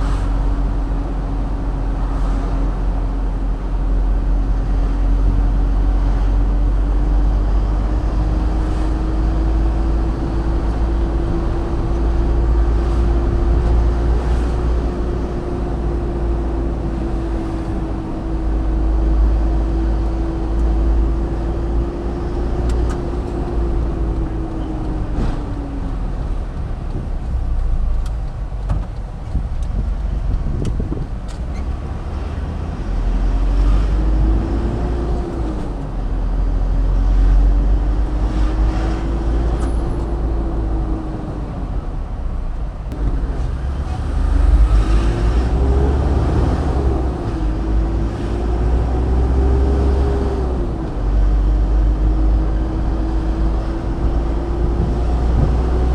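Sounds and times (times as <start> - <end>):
road and wind rumble: 0.0 - 55.9.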